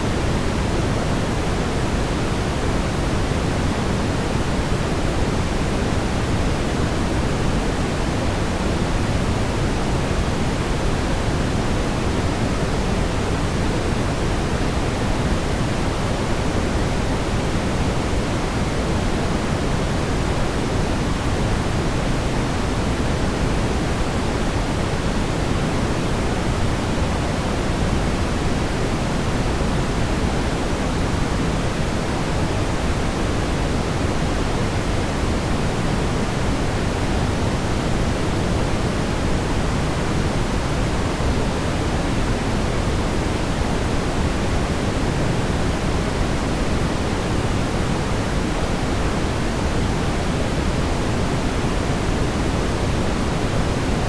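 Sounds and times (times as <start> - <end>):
brown noise rumbling hiss: 0.0 - 54.0.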